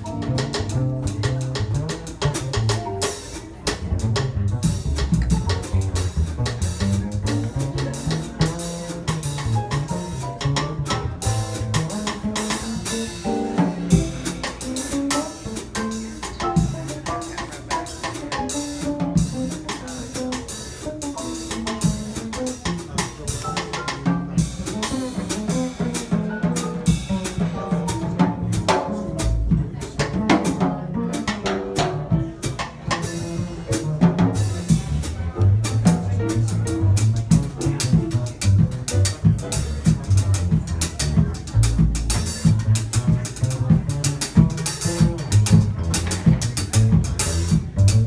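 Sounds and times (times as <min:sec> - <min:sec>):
keyboard piano: 0:00.0 - 0:42.6
drum kit struck with sticks: 0:00.0 - 0:48.0
plucked upright bass: 0:00.0 - 0:48.0.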